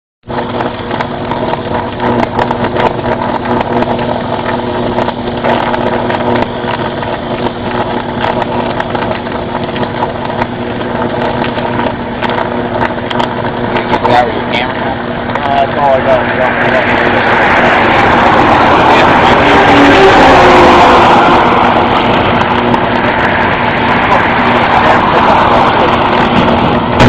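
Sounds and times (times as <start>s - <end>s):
electrical crackling and snaps: 0.3s - 27.0s
loud electrical buzz: 0.3s - 27.0s.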